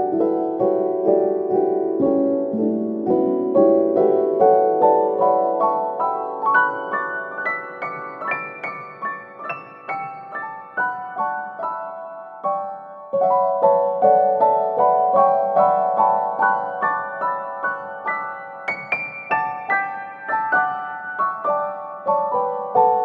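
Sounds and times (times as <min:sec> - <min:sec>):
gentle piano notes: 0:00.0 - 0:23.0.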